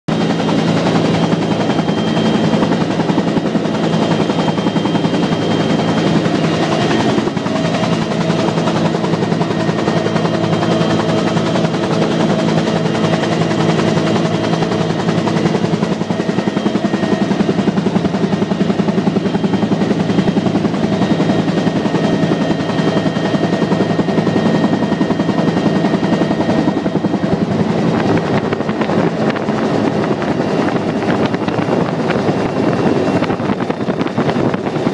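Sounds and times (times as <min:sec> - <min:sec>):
helicopter rotor and engine noise: 0:00.1 - 0:34.9.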